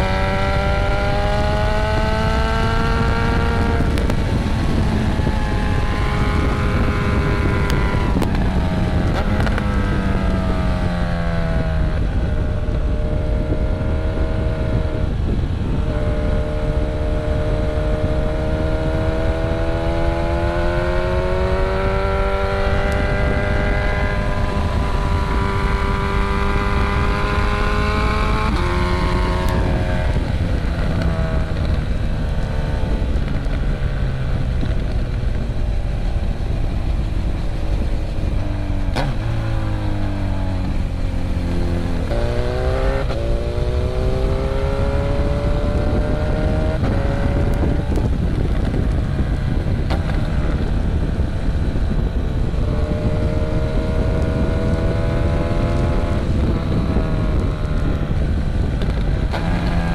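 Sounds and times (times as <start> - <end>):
motorcycle engine revving: 0.0 - 59.9
wind buffeting microphone: 0.0 - 59.9.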